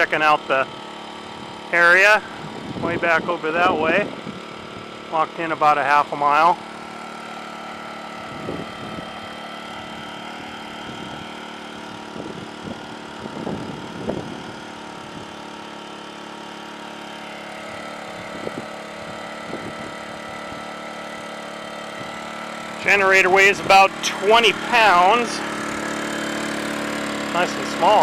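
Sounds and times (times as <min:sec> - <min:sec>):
generator engine running: 0:00.0 - 0:28.0.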